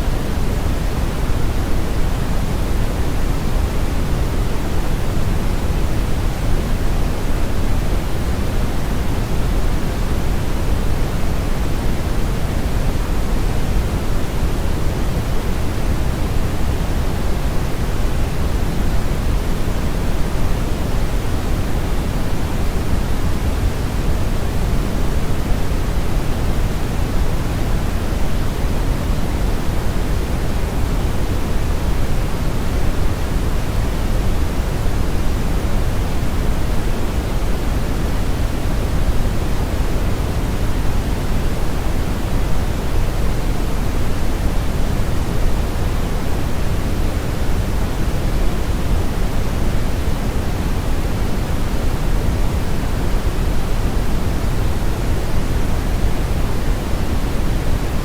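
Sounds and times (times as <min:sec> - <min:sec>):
brown and white noise hiss: 0:00.0 - 0:58.0.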